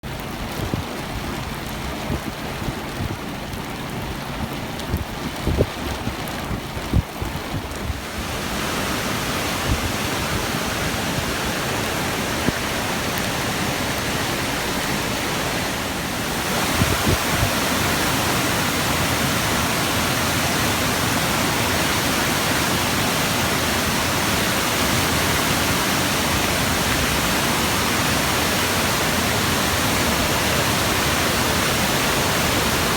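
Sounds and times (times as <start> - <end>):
roar of rushing floodwater: 0.0 - 32.9.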